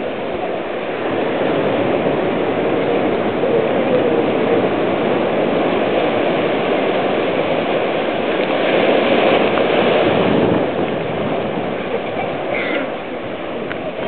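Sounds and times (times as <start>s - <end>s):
ocean surf washing in: 0.0s - 14.0s.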